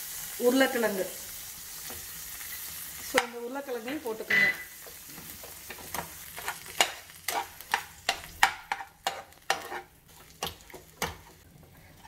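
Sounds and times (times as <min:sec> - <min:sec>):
butter sizzling: 0:00.0 - 0:12.0.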